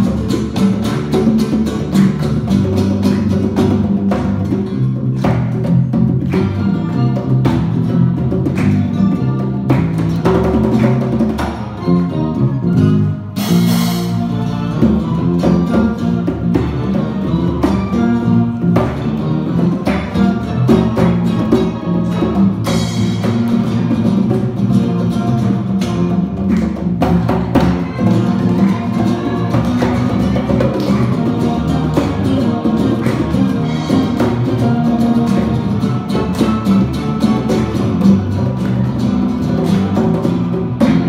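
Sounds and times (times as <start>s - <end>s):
acoustic guitar: 0.0s - 41.0s
electric bass: 0.0s - 41.0s
hand percussion: 0.0s - 41.0s.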